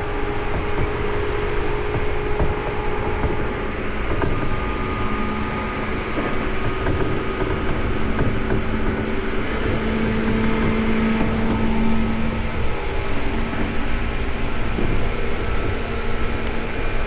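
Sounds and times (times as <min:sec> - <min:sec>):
faint motor whine: 0:00.0 - 0:17.0
train wheels rumbling on rail: 0:00.0 - 0:17.0.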